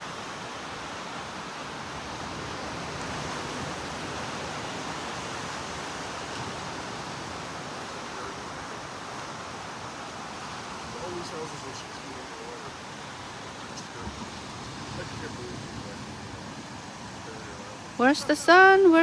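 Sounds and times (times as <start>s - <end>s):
ocean surf breaking on beach: 0.0s - 19.0s.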